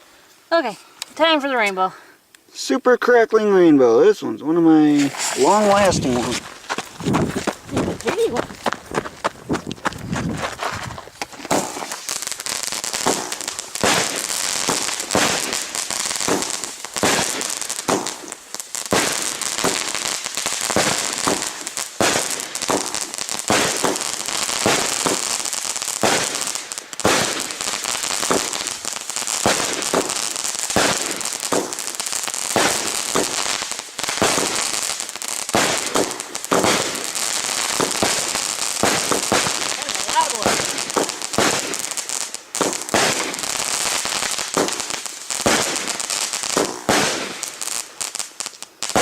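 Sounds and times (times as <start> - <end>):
firework crackling and popping: 4.7 - 49.0
firework high hiss: 4.8 - 8.6, 10.6 - 49.0.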